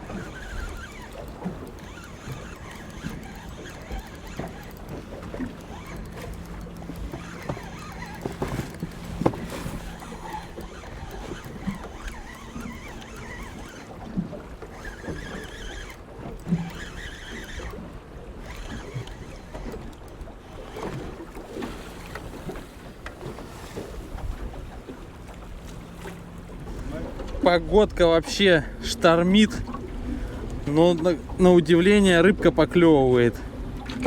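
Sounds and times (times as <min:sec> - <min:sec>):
gear knocking in boat: 0:00.0 - 0:34.0
waves against a small boat: 0:00.0 - 0:34.0.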